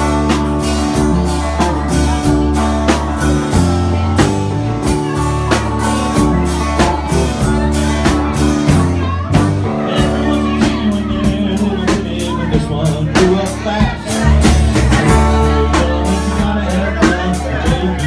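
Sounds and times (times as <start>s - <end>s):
bass guitar: 0.0s - 18.0s
drum kit beat: 0.0s - 18.0s
guitars: 0.0s - 18.0s.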